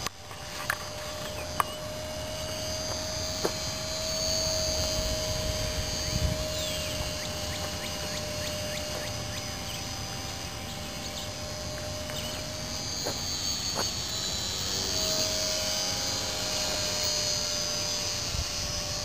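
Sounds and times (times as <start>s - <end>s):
model plane propeller whining: 0.0s - 19.0s.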